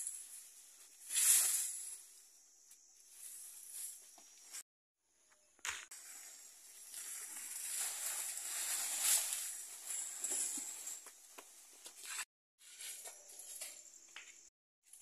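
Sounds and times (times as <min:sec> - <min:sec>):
leaves and stems rustling: 0:00.0 - 0:04.6, 0:05.9 - 0:13.6.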